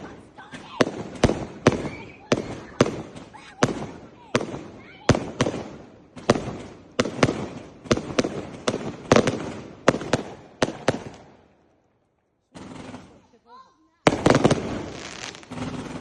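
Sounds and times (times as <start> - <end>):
firework cake bangs with crackling: 0.0 - 11.5, 14.1 - 16.0.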